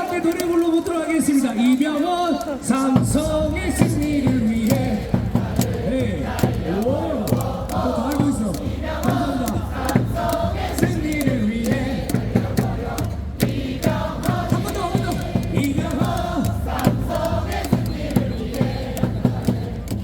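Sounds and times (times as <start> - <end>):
crowd singing in unison: 0.0 - 20.0
loud stadium music: 0.0 - 20.0
thundersticks clapping on beat: 0.0 - 20.0.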